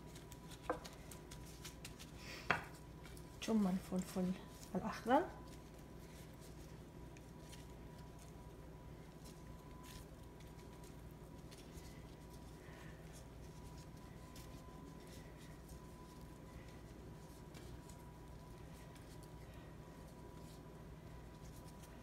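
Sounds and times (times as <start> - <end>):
gloved hands rustling: 0.0 - 22.0
steady low hum: 0.0 - 22.0.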